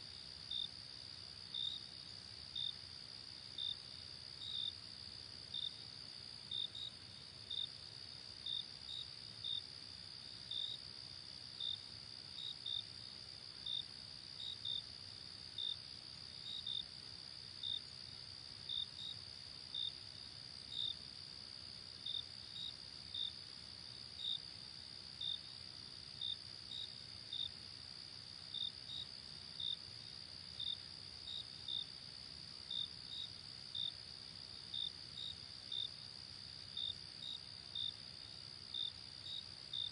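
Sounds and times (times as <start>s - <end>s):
crickets trilling and chirping: 0.0s - 39.9s.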